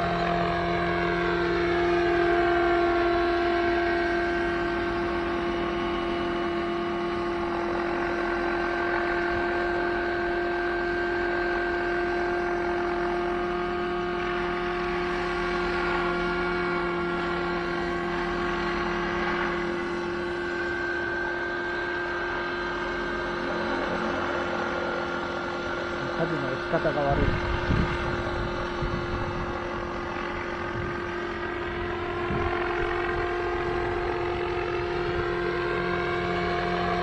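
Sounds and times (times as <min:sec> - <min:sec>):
model helicopter engine running: 0:00.0 - 0:37.0.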